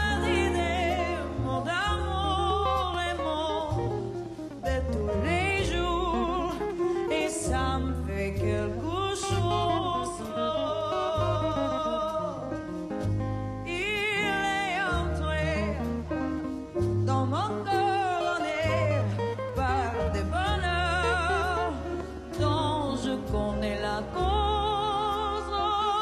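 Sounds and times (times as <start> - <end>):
slow deep bass notes: 0.0 - 17.8, 18.6 - 25.8.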